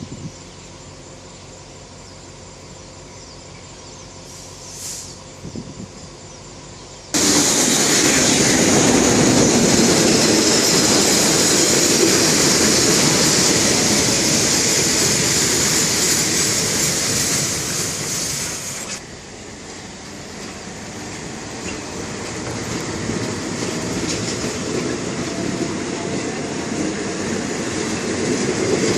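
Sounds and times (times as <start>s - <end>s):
train wheels rushing on rails: 4.2s - 28.9s.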